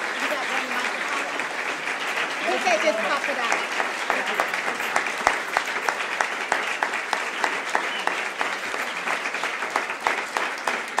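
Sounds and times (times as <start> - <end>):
audience applauding: 0.0 - 11.0
close hand claps: 0.0 - 11.0.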